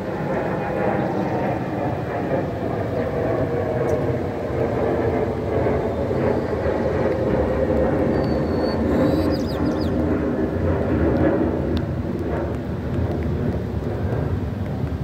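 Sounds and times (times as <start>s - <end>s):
jet engines roaring overhead: 0.0s - 15.0s.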